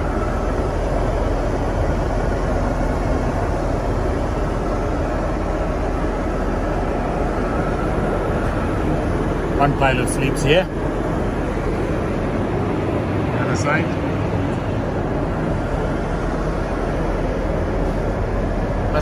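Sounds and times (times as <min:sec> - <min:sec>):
aircraft cabin noise: 0:00.0 - 0:19.0.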